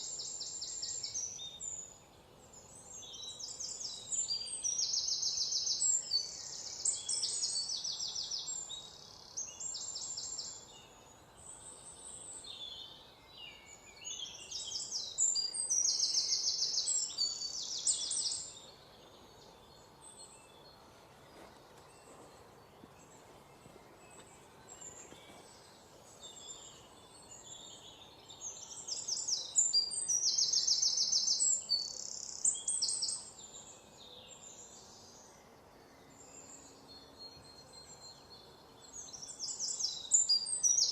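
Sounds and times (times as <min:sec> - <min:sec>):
soft bird chirps: 0:00.0 - 0:40.9
songbirds trilling: 0:00.0 - 0:40.9.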